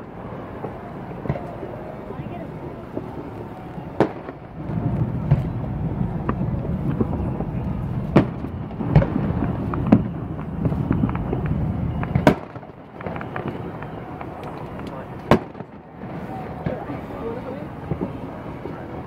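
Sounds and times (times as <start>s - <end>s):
fireworks crackle: 0.0s - 19.0s.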